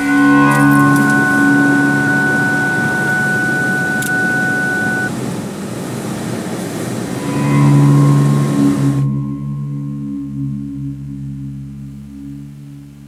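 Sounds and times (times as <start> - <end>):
low sustained music tones: 0.0 - 5.2, 6.9 - 13.0
steady high tone: 0.0 - 5.2, 7.0 - 13.0.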